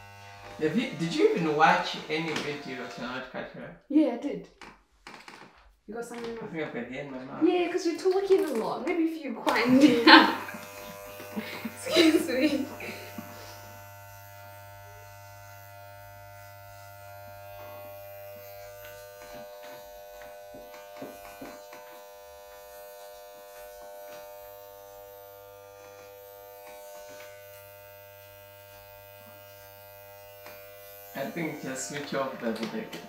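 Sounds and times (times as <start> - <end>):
electric hair clippers buzzing: 0.0 - 3.1, 7.7 - 33.0.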